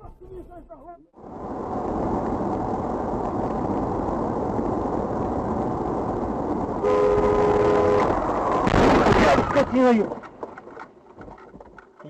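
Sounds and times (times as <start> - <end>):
car road and engine noise: 1.2 - 12.0.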